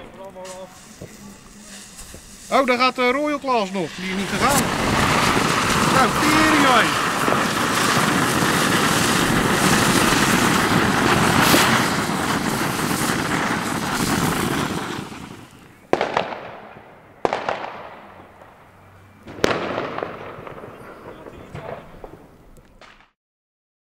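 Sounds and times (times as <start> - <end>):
firework fountains hissing and crackling: 0.0 - 23.0
firework bangs: 0.0 - 23.2.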